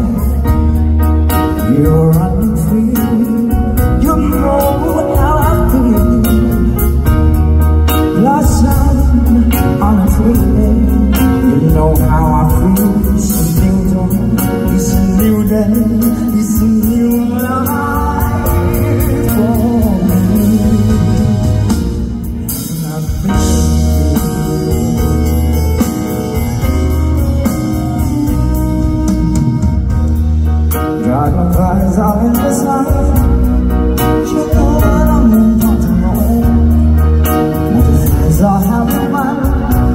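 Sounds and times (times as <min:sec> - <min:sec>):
amplified pop backing music: 0:00.0 - 0:39.9
man singing: 0:00.0 - 0:39.9.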